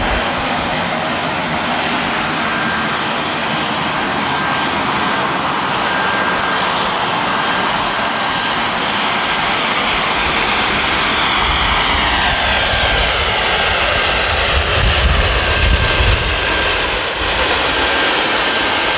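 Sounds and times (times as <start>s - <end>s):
jet engine whining: 0.0s - 18.9s.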